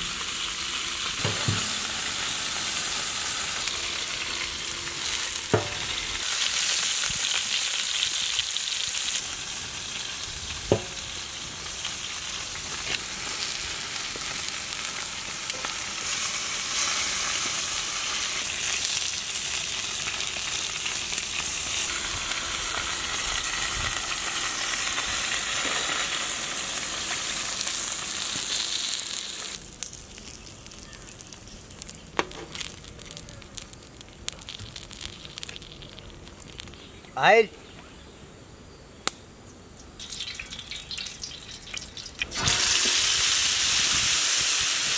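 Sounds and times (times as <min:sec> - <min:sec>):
chicken sizzling in a pan: 0:00.0 - 0:37.4, 0:40.0 - 0:44.9.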